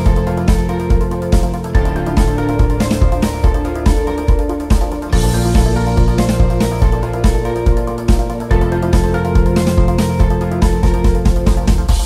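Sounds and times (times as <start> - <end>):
dramatic game show music: 0.0 - 12.0.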